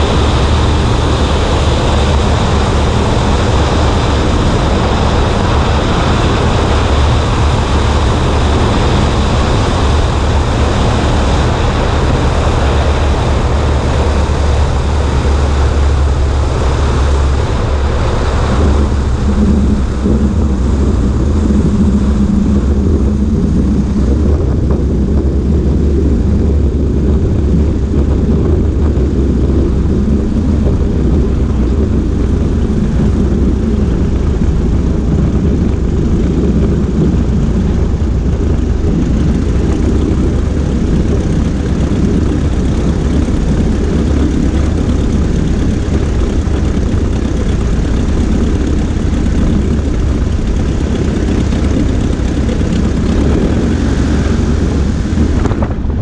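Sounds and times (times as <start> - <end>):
piston engine and propeller: 0.0 - 56.0
wind rumble on microphone: 0.0 - 56.0.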